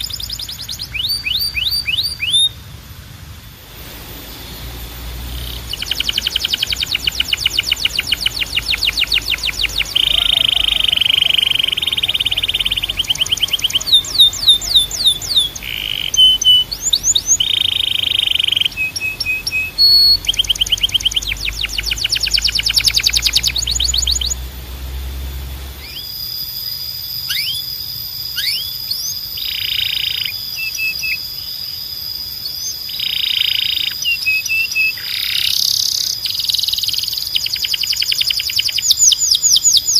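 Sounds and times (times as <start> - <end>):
canary singing: 0.0 - 2.6, 3.7 - 39.9.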